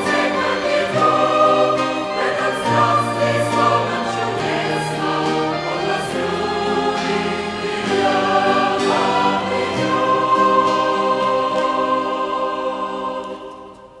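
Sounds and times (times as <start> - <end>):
violin ensemble: 0.0 - 13.9
church choir singing: 0.0 - 14.0.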